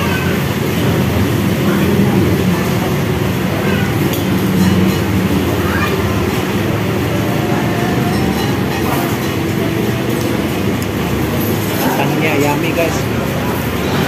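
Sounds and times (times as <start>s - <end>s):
passing traffic rumble: 0.0s - 14.0s.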